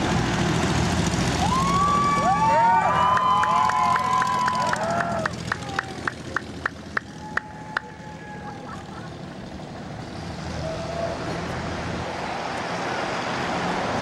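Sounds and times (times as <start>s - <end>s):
road traffic hiss: 0.0s - 14.0s.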